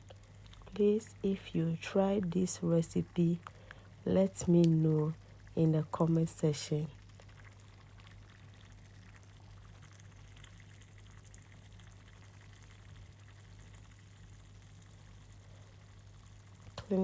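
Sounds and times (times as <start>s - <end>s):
steady low hum: 0.0s - 17.0s
stew bubbling in a saucepan: 0.0s - 17.0s.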